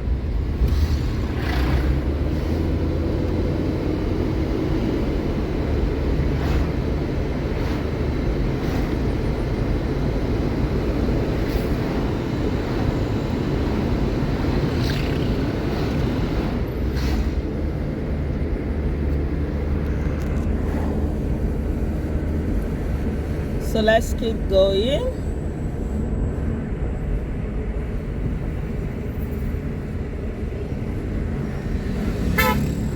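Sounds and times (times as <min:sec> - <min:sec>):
vehicle rumbling along road: 0:00.0 - 0:32.9.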